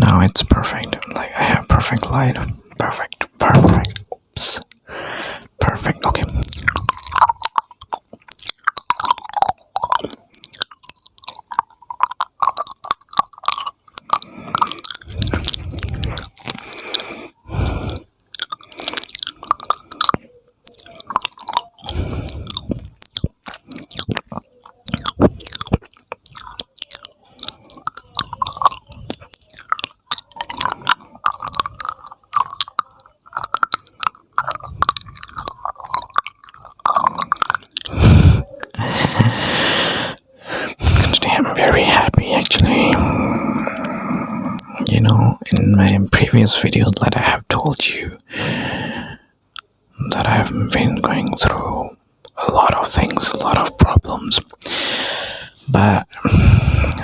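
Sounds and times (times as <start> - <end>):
wet mouth clicks and pops: 0.2 - 47.8, 49.0 - 55.7, 56.3 - 57.0.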